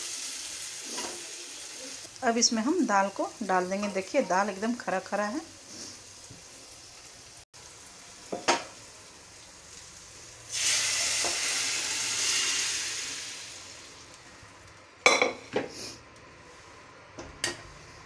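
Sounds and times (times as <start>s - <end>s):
loud sizzle in hot pan: 0.0s - 16.0s.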